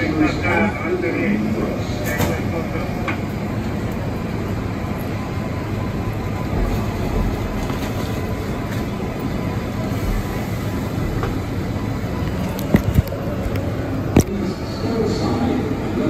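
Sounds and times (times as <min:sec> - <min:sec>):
subway car rumbling on track: 0:00.0 - 0:16.0.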